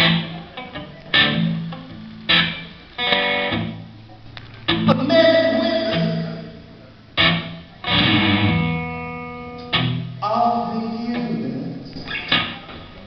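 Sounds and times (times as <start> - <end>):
guitar chords ringing: 0.0 - 11.1.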